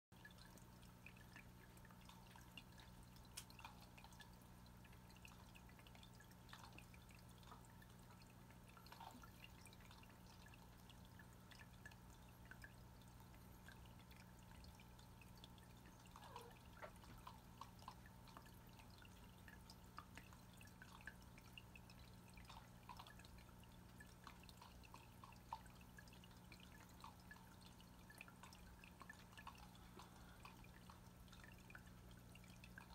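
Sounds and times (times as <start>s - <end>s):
water dripping and plinking: 0.2s - 32.9s.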